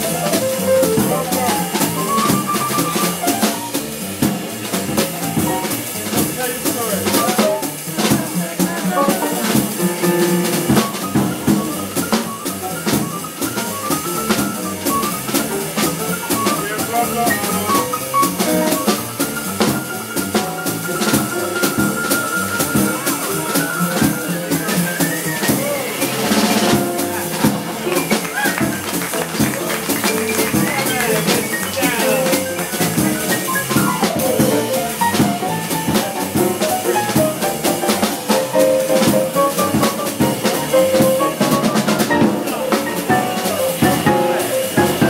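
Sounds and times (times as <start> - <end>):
drum kit with cymbals: 0.0 - 45.0
piano solo: 0.0 - 45.0
upright bass: 0.0 - 45.0.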